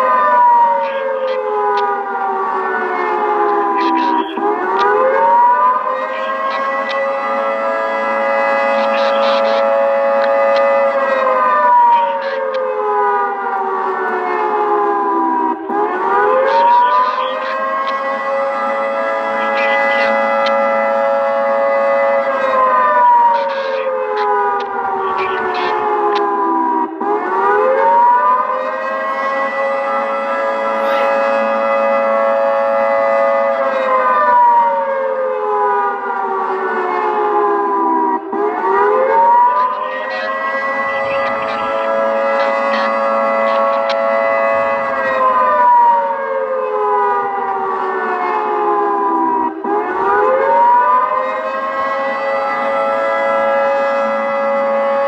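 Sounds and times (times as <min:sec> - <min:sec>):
electronic siren dual-tone blast: 0:00.0 - 0:55.0.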